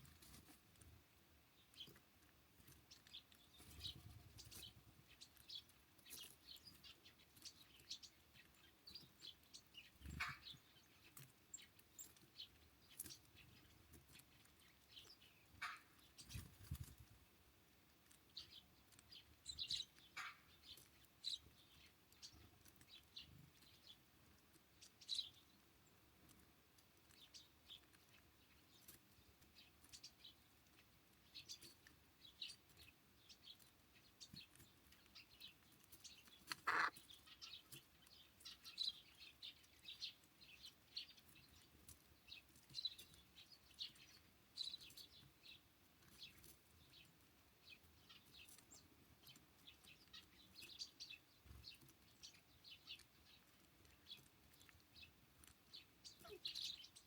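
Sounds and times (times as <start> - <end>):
songbird chirps and calls: 0.0 - 57.0.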